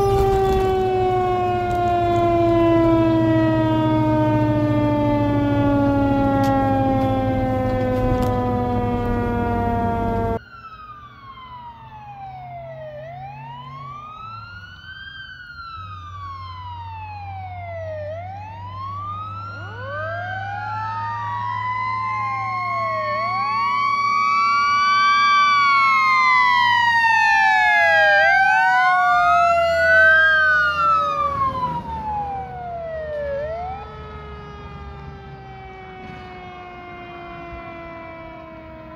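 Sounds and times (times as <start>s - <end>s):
fire truck engine: 0.0s - 38.9s
fire truck sirens wailing: 0.0s - 38.9s.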